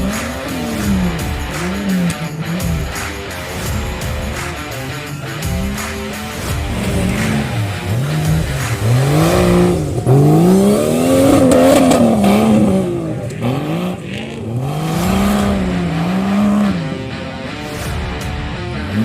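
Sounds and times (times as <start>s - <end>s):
off-road engine revving: 0.0s - 19.0s.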